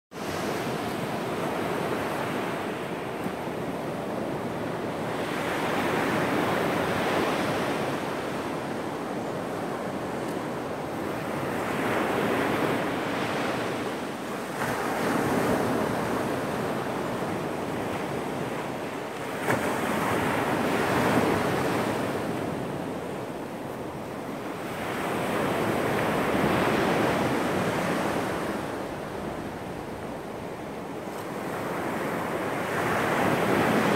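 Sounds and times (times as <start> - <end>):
waves washing up a sandy beach: 0.2 - 33.9.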